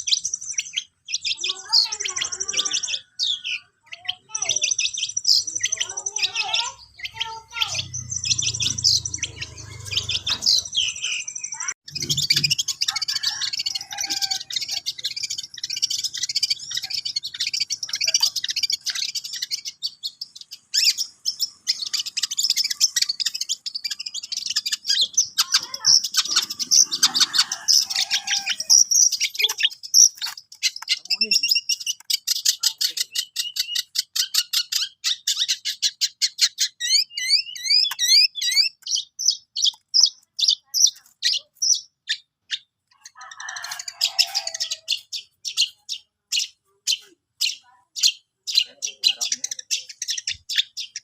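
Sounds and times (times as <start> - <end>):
shrike chattering song: 0.0 - 51.0.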